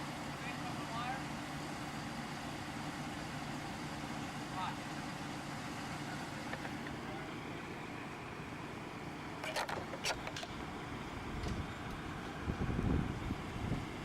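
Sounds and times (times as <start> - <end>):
engine running with low rumble: 0.0 - 14.0.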